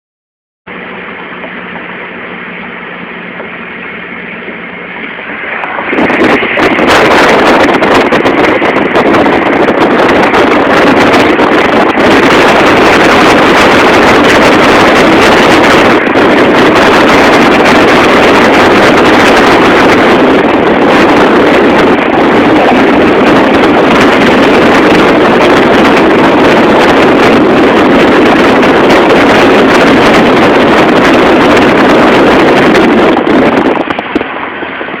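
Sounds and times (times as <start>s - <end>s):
car interior hum: 0.7s - 35.0s
wind and road noise buffeting: 0.7s - 35.0s.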